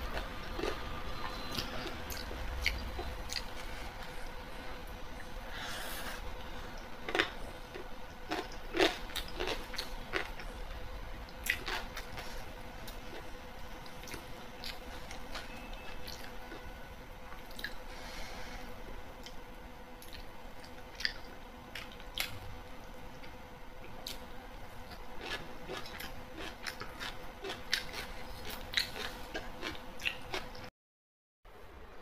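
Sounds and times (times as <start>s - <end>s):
person chewing food: 0.0s - 16.7s, 17.4s - 18.1s, 20.0s - 22.4s, 23.2s - 30.7s
faint steady hum: 0.0s - 30.7s, 31.5s - 32.0s.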